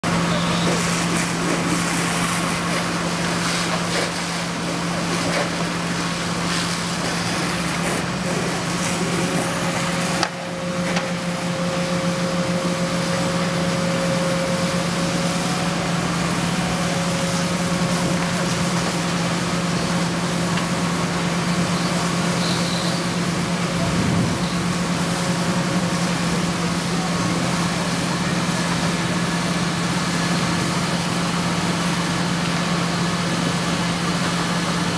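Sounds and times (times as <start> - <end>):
fire engine engine droning: 0.0 - 34.9.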